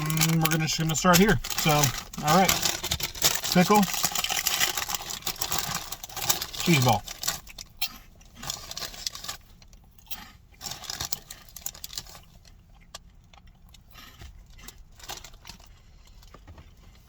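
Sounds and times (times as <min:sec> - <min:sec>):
person chewing crunchy snack: 0:00.0 - 0:17.0.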